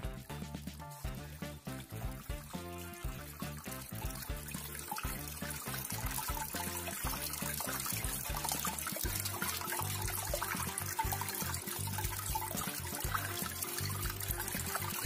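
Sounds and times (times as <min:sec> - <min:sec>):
background music: 0:00.0 - 0:15.0
fountain water trickling: 0:00.0 - 0:15.0.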